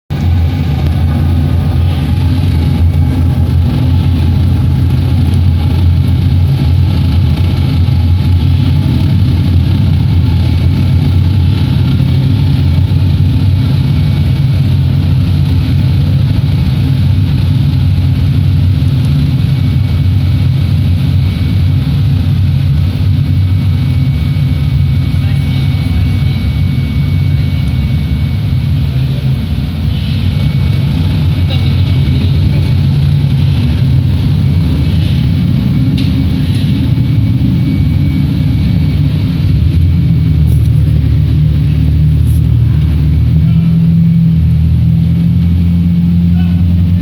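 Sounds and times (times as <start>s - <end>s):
diesel engine droning: 0.0s - 47.0s.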